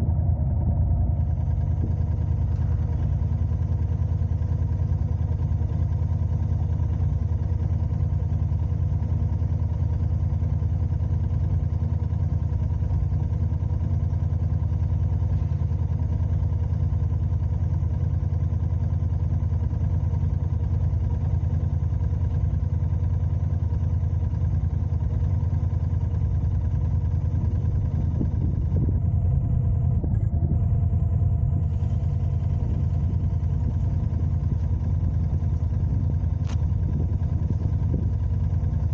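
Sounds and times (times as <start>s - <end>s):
car engine and road rumble: 0.0s - 38.9s
faint engine tones: 0.0s - 38.9s.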